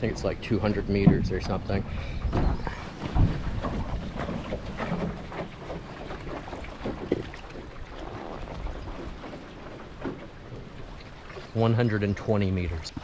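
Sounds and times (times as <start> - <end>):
wind buffeting microphone: 0.0 - 11.3.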